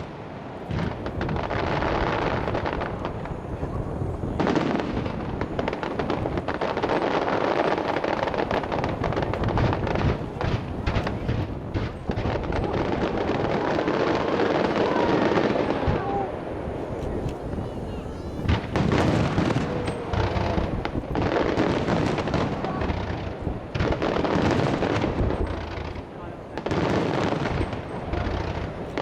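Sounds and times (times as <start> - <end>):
sharp crackling firework reports: 0.0 - 29.0.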